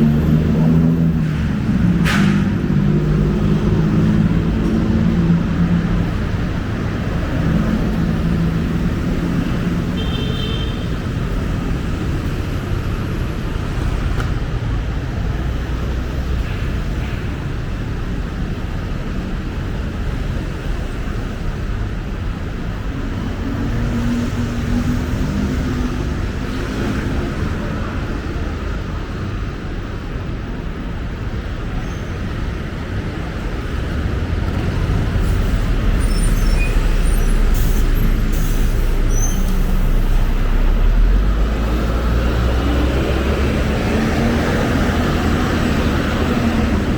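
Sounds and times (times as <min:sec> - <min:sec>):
city road traffic: 0:00.0 - 0:46.9.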